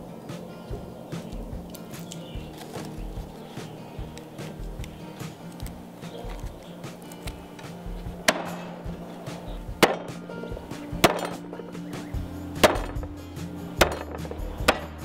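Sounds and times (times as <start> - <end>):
soft background music: 0.0 - 15.0
cleaver chopping on wooden block: 0.7 - 13.2, 13.8 - 15.0.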